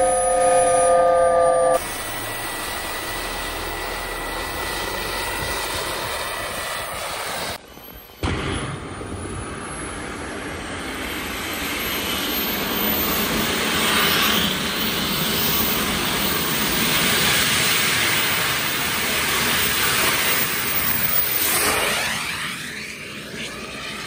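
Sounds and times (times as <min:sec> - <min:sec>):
high-pitched turbine whine: 0:00.0 - 0:24.0
jet engine roar: 0:00.0 - 0:24.0.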